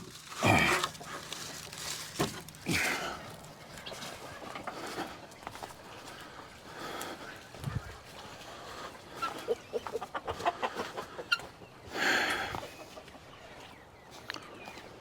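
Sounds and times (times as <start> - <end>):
chickens clucking: 0.6 - 15.0.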